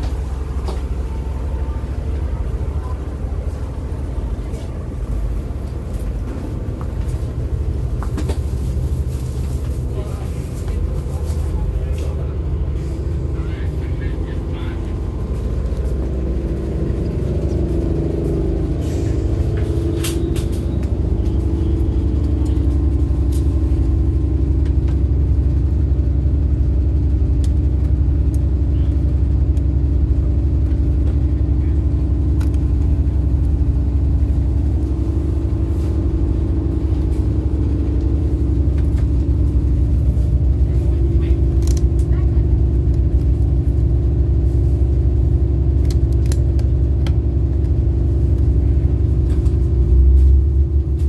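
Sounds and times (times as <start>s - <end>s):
train rumbling from inside coach: 0.0s - 51.0s.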